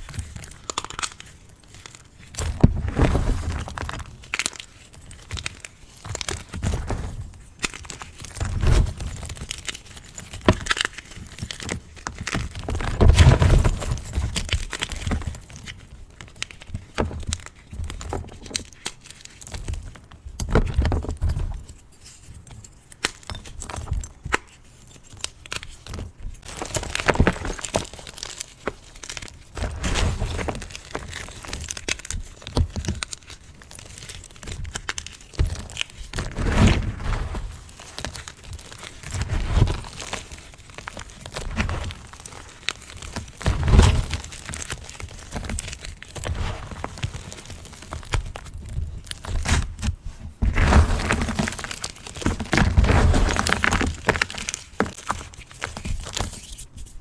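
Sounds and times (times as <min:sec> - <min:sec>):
chalk crunching and crumbling: 0:00.0 - 0:19.8, 0:21.6 - 0:57.0.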